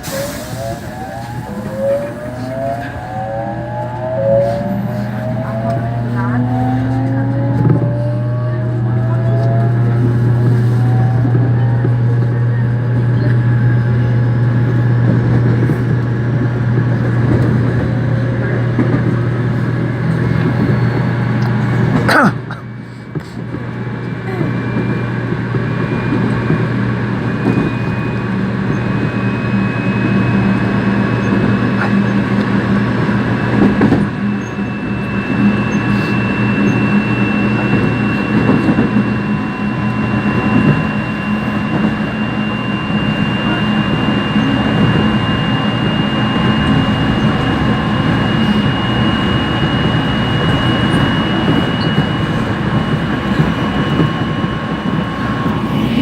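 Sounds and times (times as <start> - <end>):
train rolling rumble: 0.0 - 56.0.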